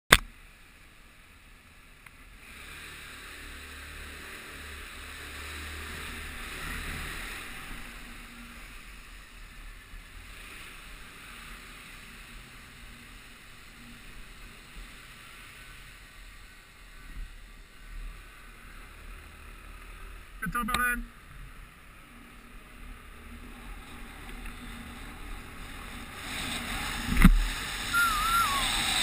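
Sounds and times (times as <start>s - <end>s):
muffled scooter engine hum: 0.2s - 29.0s.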